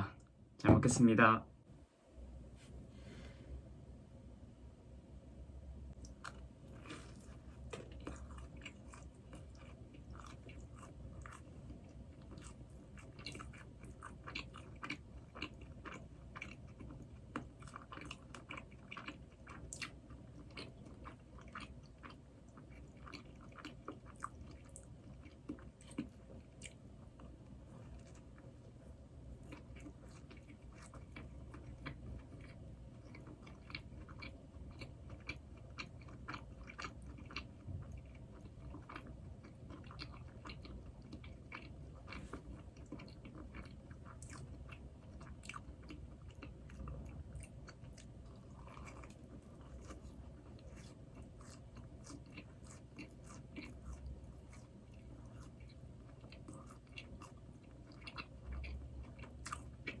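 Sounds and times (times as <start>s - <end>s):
chewing and biting doughnuts: 5.9s - 60.0s.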